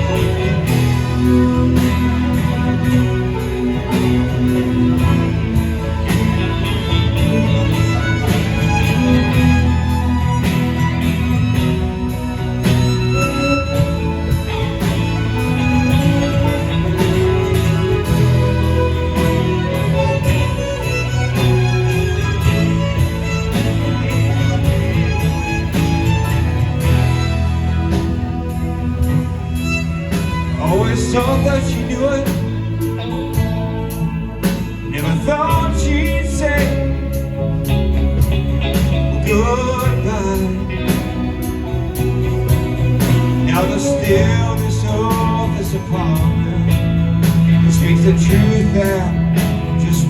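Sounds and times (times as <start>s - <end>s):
live band playing slow song: 0.0s - 50.0s.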